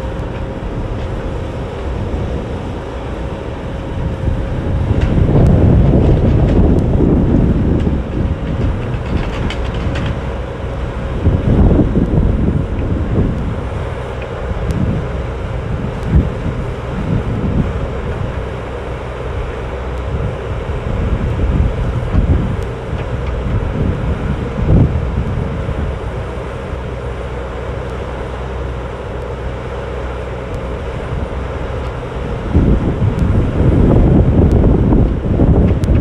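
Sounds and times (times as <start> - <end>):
excavator diesel engine running: 0.0 - 36.0
wind buffeting microphone: 0.0 - 36.0.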